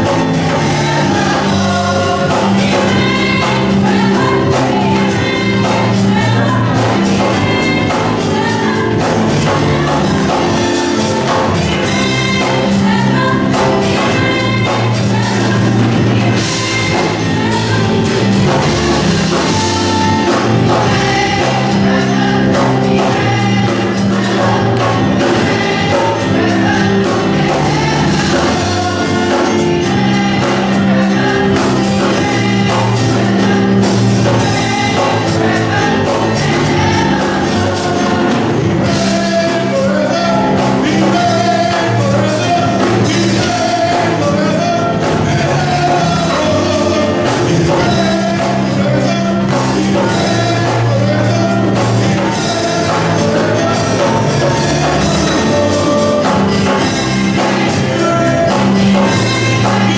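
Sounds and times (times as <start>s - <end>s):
drums keeping a steady beat: 0.0s - 59.9s
gospel choir singing: 0.0s - 59.9s
live band playing: 0.0s - 59.9s.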